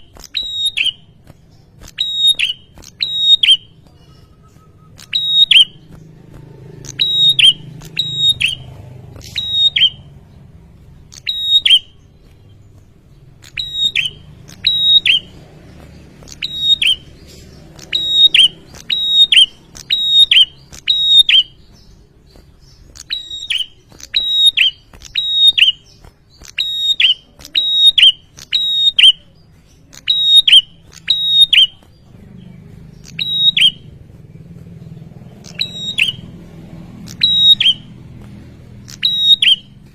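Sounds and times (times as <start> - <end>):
bird shrill chirping: 0.0 - 6.2, 6.8 - 34.0, 34.8 - 36.4, 37.0 - 39.9.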